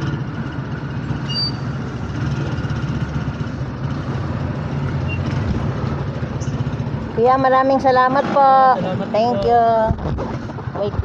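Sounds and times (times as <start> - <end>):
engine rumbling: 0.0 - 11.0
road noise: 0.0 - 11.0.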